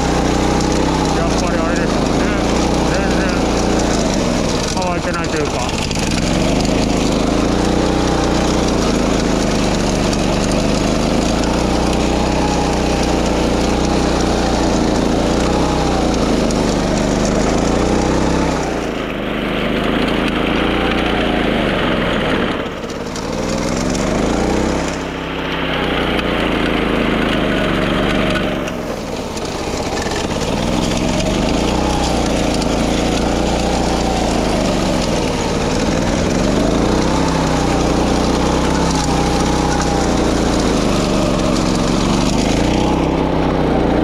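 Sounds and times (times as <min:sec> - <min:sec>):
lawn mower engine running: 0:00.0 - 0:44.0.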